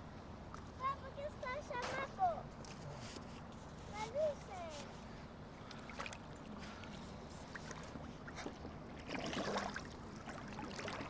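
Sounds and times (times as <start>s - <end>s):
water sloshing and splashing: 1.7s - 11.0s.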